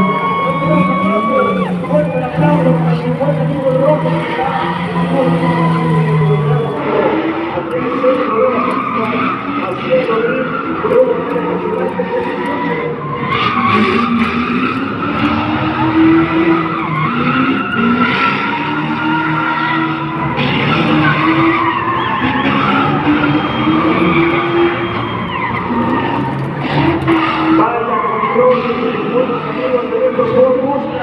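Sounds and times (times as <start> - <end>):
car engine revving: 0.0 - 31.0
tyres skidding: 0.0 - 31.0.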